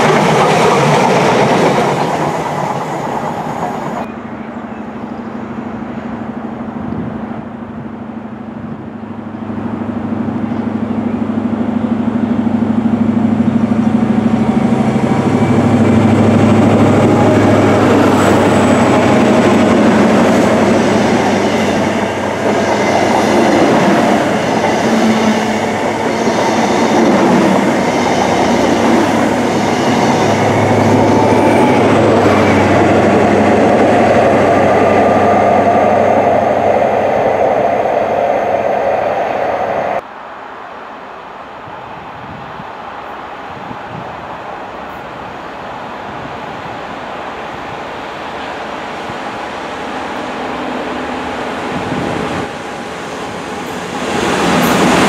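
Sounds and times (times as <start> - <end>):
train wheels rumbling on rails: 0.0 - 40.0, 43.6 - 55.0
diesel locomotive engine: 0.0 - 40.3, 41.3 - 55.0.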